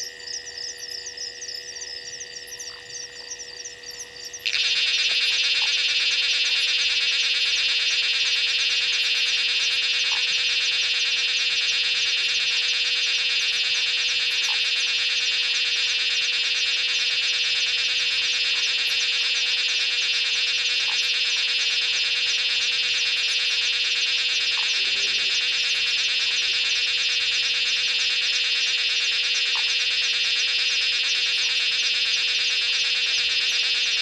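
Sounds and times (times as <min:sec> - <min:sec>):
frogs calling: 0:00.0 - 0:34.0
insects chirping: 0:00.0 - 0:34.0.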